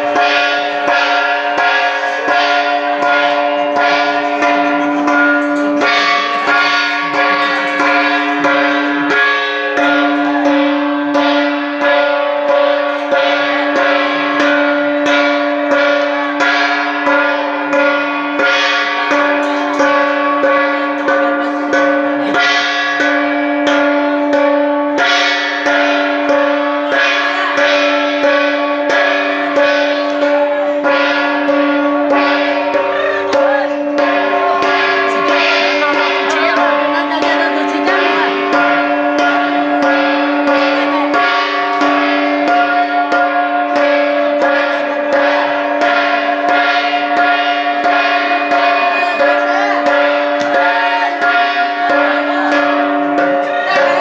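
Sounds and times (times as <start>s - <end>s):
gong beaten rhythmically: 0.0s - 54.0s.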